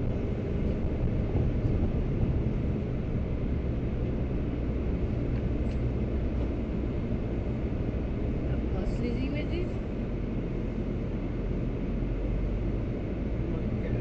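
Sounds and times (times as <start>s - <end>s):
van engine and tyre rumble: 0.0s - 14.0s.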